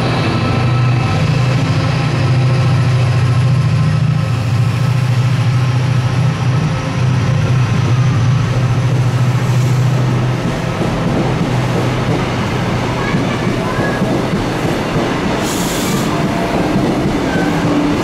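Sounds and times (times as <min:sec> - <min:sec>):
coaches rolling on rails: 0:00.0 - 0:18.0
locomotive engine deep drone: 0:00.0 - 0:18.0.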